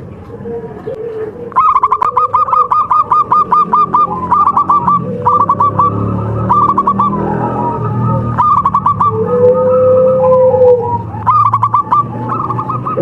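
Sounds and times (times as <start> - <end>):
dove calling staccato notes: 0.0 - 13.0.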